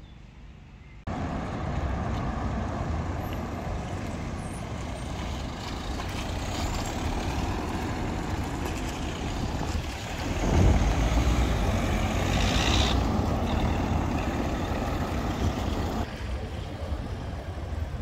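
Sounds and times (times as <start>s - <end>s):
quiet outdoor ambience: 0.0s - 18.0s.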